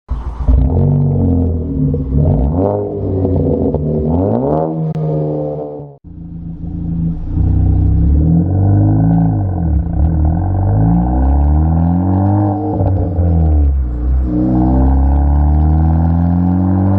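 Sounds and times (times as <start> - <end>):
car engine revving: 0.1 - 16.9
exhaust crackles and pops: 0.1 - 16.9.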